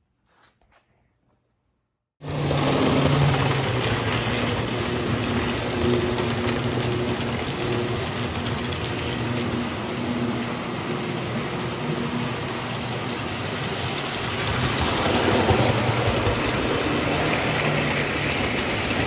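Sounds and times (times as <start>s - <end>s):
toy train running on track: 2.2s - 19.0s.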